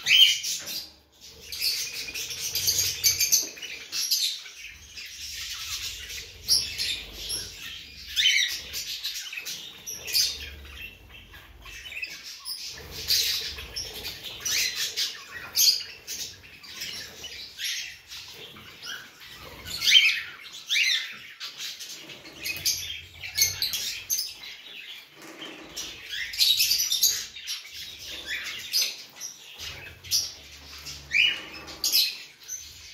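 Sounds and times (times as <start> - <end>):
caged birds chirping: 0.0 - 32.9.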